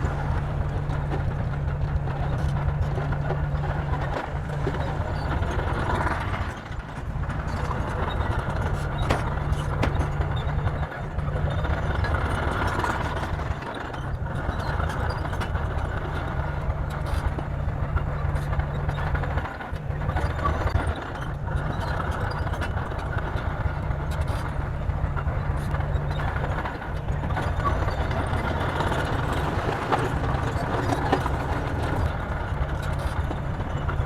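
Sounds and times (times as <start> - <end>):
bulldozer diesel engine rumbling: 0.0 - 34.0.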